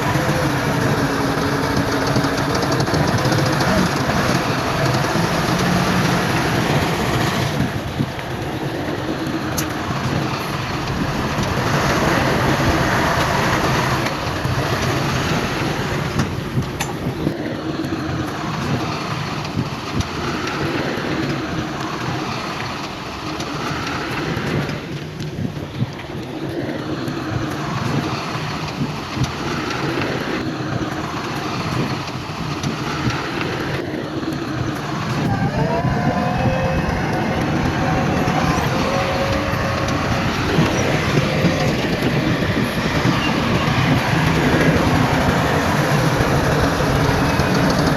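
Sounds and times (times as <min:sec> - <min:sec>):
heavy diesel machinery running: 0:00.0 - 0:47.9.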